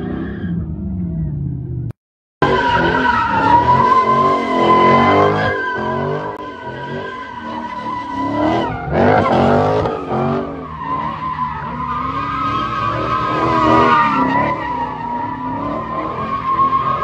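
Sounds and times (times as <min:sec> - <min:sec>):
car tyres squealing: 0:00.0 - 0:01.1, 0:02.4 - 0:17.0.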